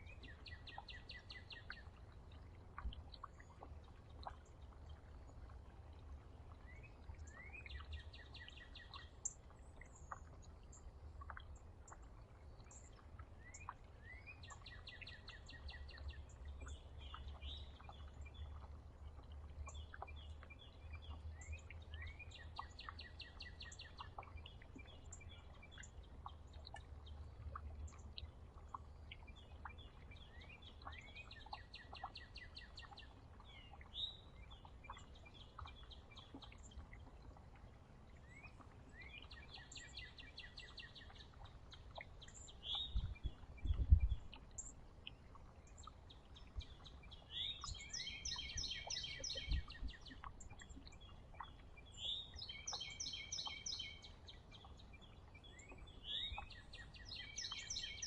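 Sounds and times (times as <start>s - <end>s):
songbird trilled song: 0.0s - 2.0s, 6.6s - 12.0s, 12.6s - 18.8s, 19.5s - 36.8s, 38.2s - 58.0s.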